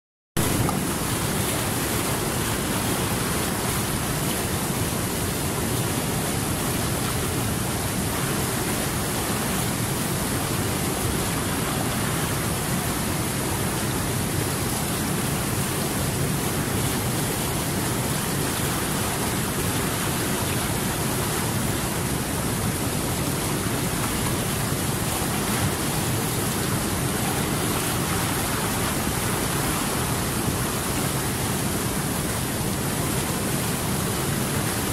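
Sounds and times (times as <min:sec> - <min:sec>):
water rushing: 0:00.4 - 0:34.9.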